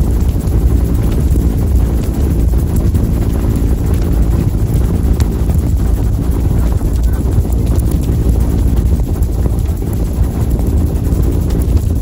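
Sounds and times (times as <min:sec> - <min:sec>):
helicopter drone: 0:00.0 - 0:12.0
wind buffeting microphone: 0:00.0 - 0:12.0.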